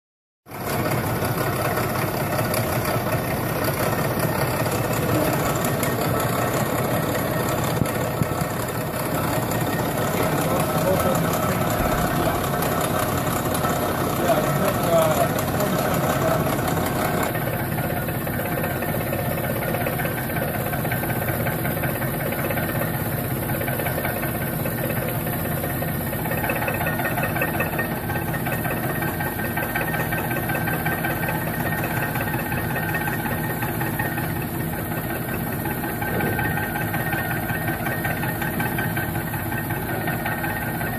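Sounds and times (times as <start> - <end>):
end mill cutting metal: 0.5 - 40.9
milling machine hum: 0.6 - 40.9.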